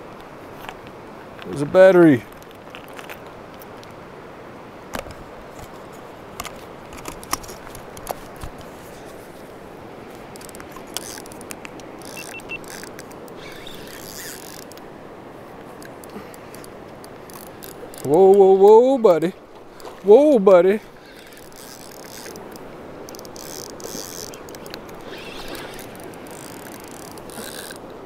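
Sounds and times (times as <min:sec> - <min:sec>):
river rushing over stones: 0:00.0 - 0:07.0, 0:07.6 - 0:28.0.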